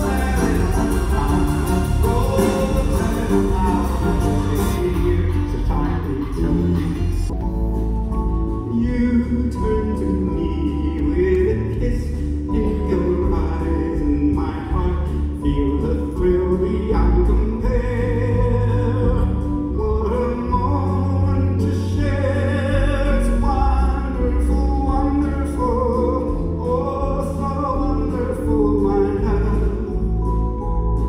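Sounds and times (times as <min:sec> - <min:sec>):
man singing into microphone: 0:00.0 - 0:07.3, 0:08.7 - 0:30.4
backing band playing: 0:00.0 - 0:31.0.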